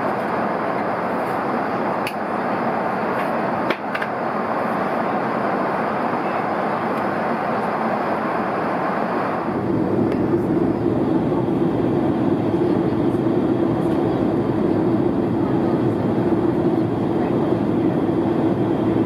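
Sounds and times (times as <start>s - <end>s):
jet airliner cabin noise: 0.0s - 19.0s.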